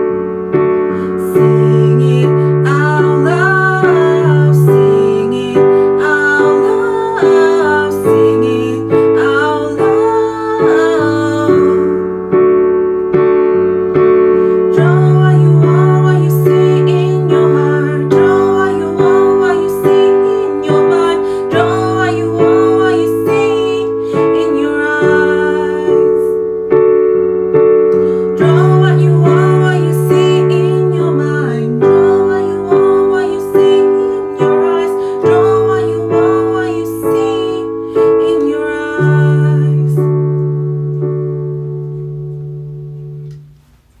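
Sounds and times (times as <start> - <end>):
electric piano chords: 0.0 - 44.0.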